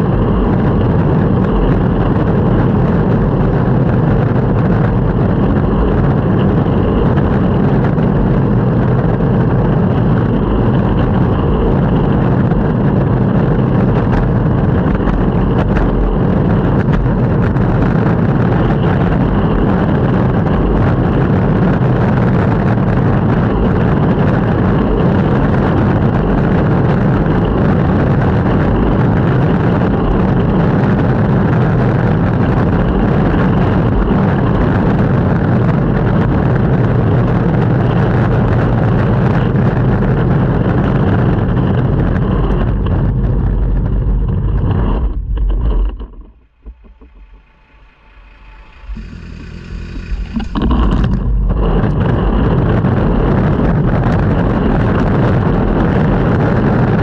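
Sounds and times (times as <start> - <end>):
longboard wheels rumbling on pavement: 0.0 - 57.0.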